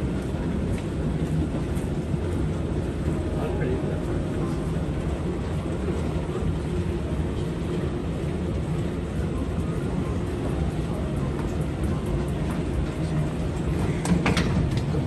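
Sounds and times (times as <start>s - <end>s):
moving walkway rumble and hum: 0.0s - 15.0s.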